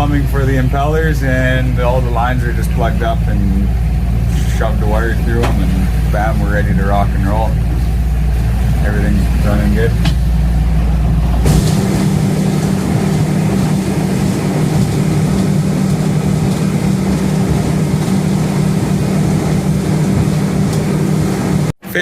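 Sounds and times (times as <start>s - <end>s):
boat motors droning: 0.0s - 22.0s
water noise: 0.0s - 22.0s
wind noise: 1.7s - 21.7s.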